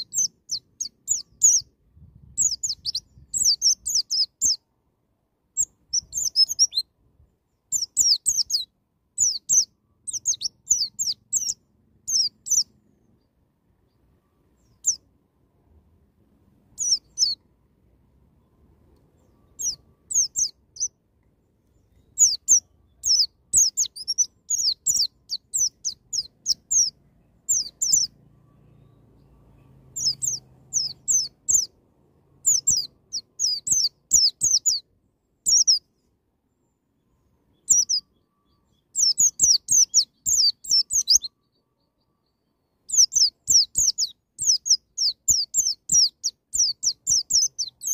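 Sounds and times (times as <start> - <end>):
white-eye bird singing chirps: 0.0 - 4.7, 5.6 - 6.9, 7.5 - 15.1, 16.7 - 17.4, 18.4 - 21.0, 21.6 - 47.9.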